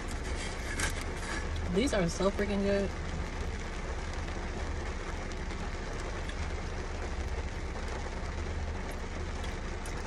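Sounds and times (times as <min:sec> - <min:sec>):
car interior rumble and hiss: 0:00.0 - 0:10.0.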